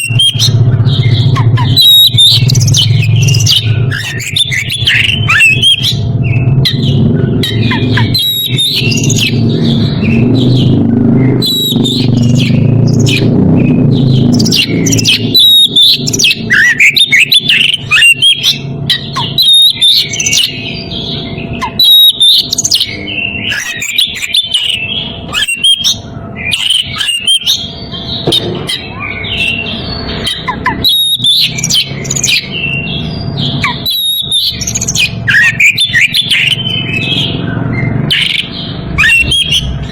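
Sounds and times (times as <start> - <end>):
bird singing whistles and chirps: 0.0 - 39.9.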